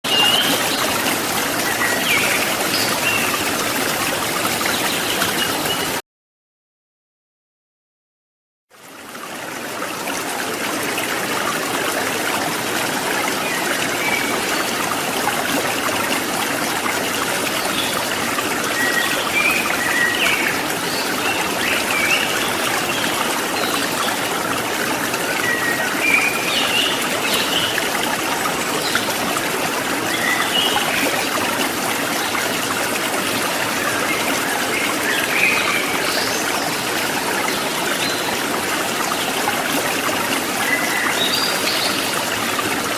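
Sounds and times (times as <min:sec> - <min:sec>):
stream water trickling: 0:00.0 - 0:06.0, 0:08.7 - 0:42.9.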